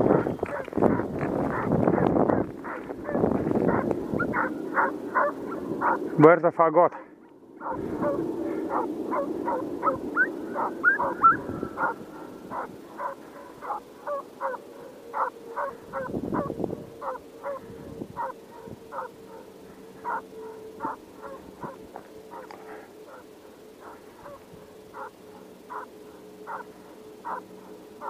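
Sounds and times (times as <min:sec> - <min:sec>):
distant hounds baying: 0:00.0 - 0:06.2, 0:06.9 - 0:28.0.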